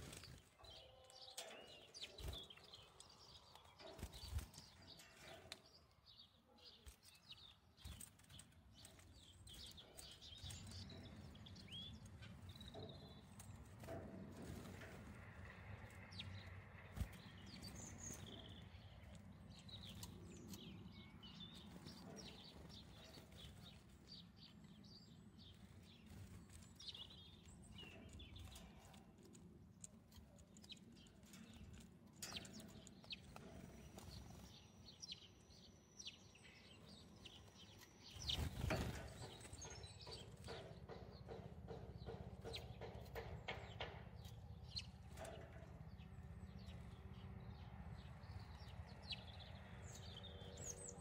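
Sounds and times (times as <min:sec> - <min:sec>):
songbirds chirping: 0:00.0 - 0:51.0.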